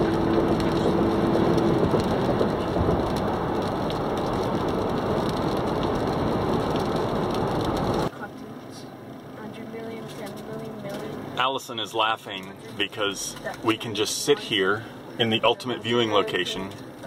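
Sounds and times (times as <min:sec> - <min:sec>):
rain on car: 0:00.0 - 0:17.0
tyres on wet road: 0:00.0 - 0:17.0.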